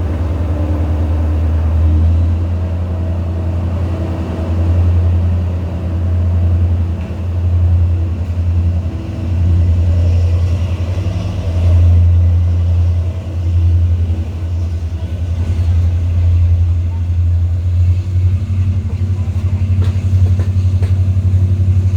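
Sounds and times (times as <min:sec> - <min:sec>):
diesel train engine droning: 0:00.0 - 0:21.9.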